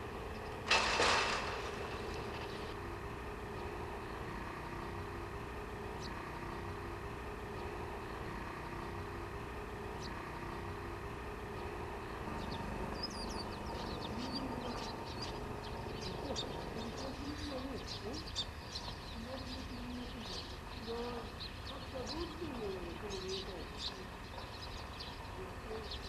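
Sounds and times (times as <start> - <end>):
birds chirping: 0.0 - 26.0
diesel railcar idling: 0.0 - 26.0.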